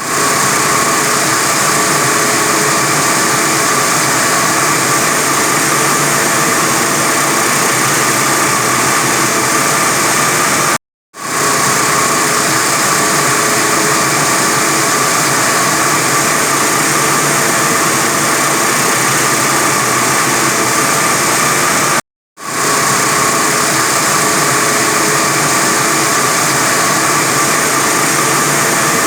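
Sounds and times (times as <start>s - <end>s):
wire saw cutting concrete: 0.0s - 29.0s.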